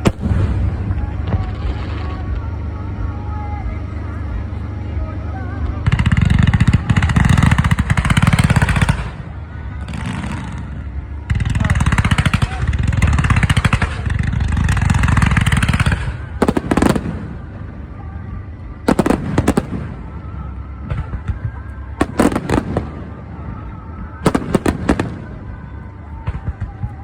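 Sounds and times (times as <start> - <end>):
fireworks bangs: 0.0 - 2.5, 5.8 - 27.0.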